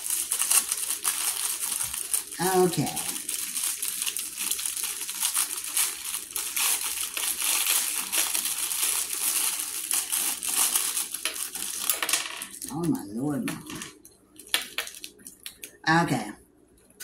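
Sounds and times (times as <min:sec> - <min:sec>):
packaging crinkling: 0:00.0 - 0:12.9, 0:13.6 - 0:15.8.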